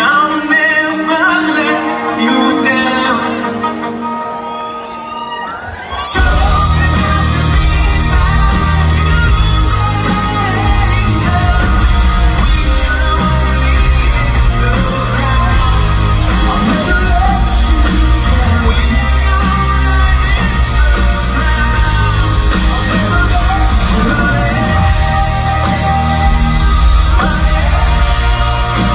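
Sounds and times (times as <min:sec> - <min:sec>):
live rock band playing: 0:00.0 - 0:28.9
male lead singer: 0:00.0 - 0:28.9.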